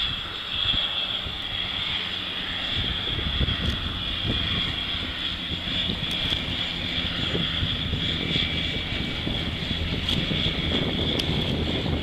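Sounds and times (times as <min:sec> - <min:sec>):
propeller engines droning: 0:00.0 - 0:12.0.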